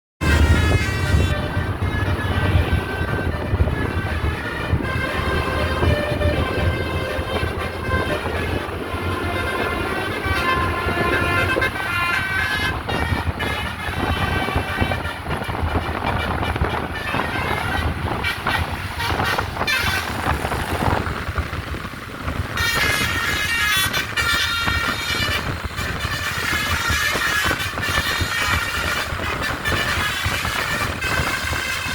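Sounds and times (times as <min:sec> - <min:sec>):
multi-tone musical air horn: 0:00.2 - 0:21.0, 0:22.4 - 0:31.9
engine and wind rumble: 0:00.2 - 0:31.9.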